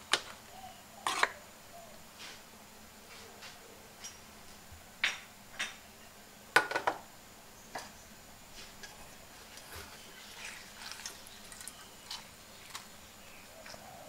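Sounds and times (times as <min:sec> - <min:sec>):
broth boiling in a pot: 0:00.0 - 0:14.0.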